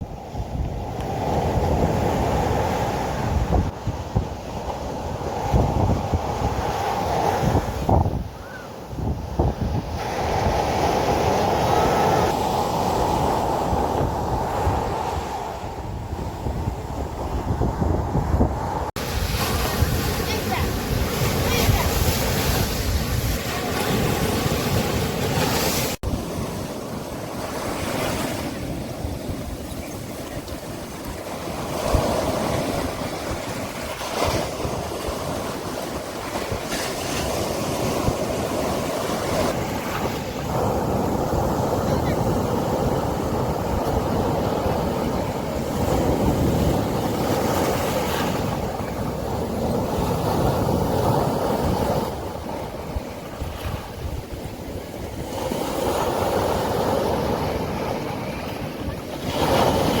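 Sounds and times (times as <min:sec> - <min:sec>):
surf breaking on beach: 0:00.8 - 1:00.0.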